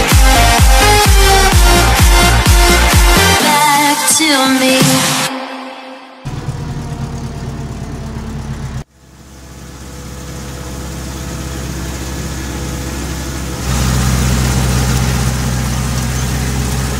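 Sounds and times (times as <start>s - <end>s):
tractor diesel engine running: 0.0s - 3.4s, 6.3s - 16.9s.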